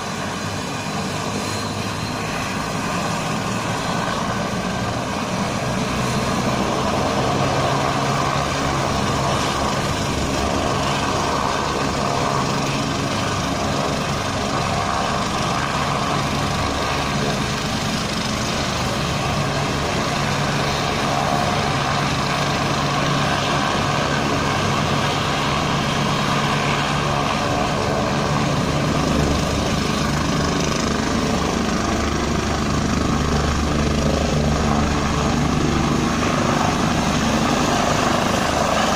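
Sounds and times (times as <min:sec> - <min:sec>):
helicopter engines and rotor idling: 0:00.0 - 0:38.9.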